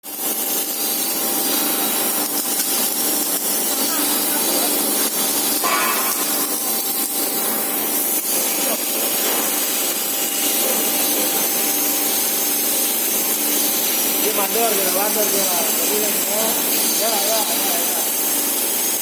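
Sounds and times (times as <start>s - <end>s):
hissing grinding machinery: 0.1s - 19.0s
high machine squeal: 0.5s - 19.0s.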